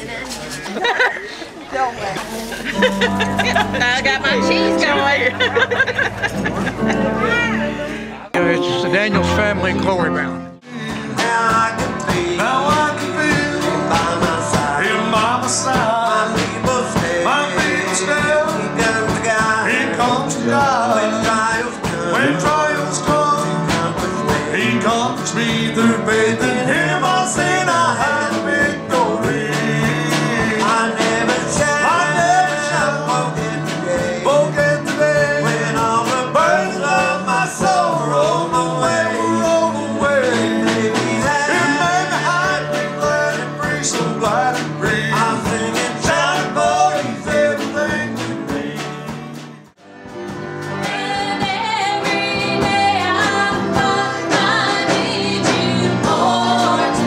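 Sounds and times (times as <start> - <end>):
country gospel band singing: 0.0 - 57.0.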